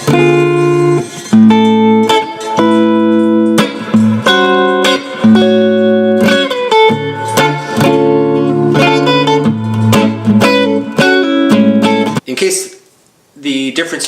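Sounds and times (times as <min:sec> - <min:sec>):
electric guitar chords and notes: 0:00.0 - 0:12.2.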